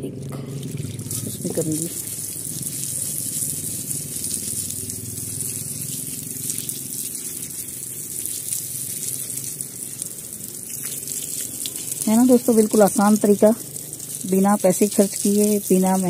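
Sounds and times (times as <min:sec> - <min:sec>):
hose spraying water: 0:00.3 - 0:16.0.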